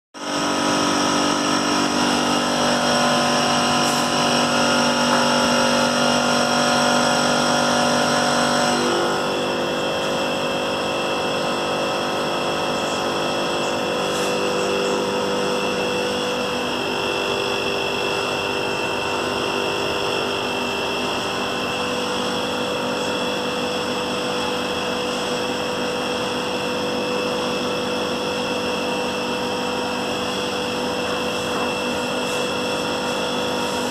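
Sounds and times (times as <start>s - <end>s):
air conditioner whine: 0.2s - 33.9s.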